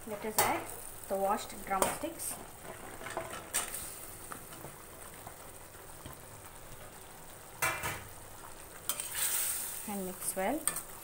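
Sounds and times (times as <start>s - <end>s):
food simmering and bubbling: 0.0s - 11.0s.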